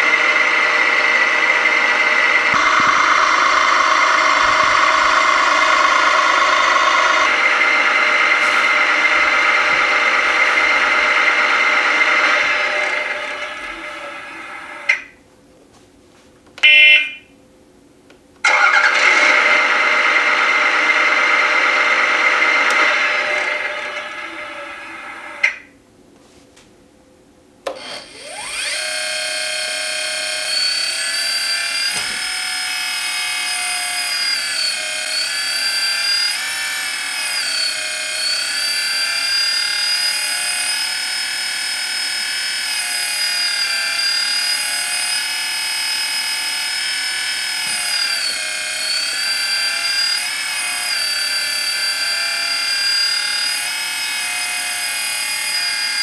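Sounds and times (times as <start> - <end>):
hydraulic pump whining: 0.0 - 15.1, 18.4 - 25.6, 27.6 - 56.0.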